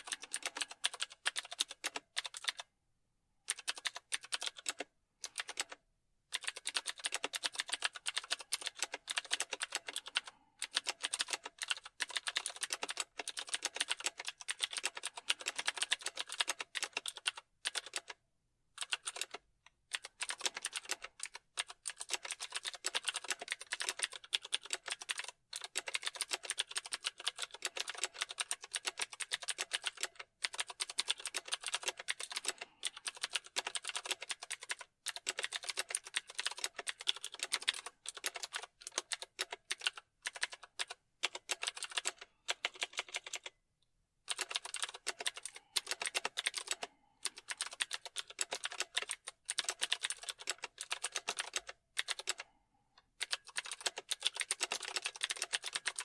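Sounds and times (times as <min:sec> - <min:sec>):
typing on computer keyboard: 0:00.0 - 0:02.7, 0:03.4 - 0:43.6, 0:44.3 - 0:56.0.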